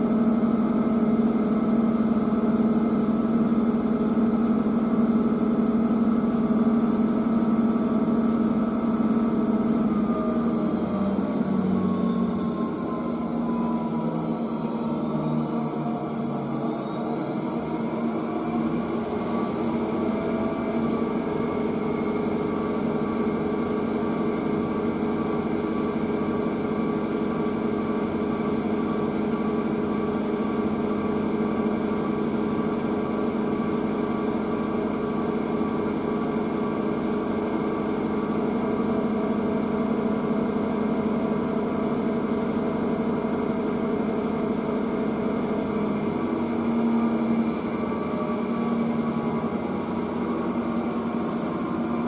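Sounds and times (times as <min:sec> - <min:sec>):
washing machine motor hum: 0:00.0 - 0:52.0.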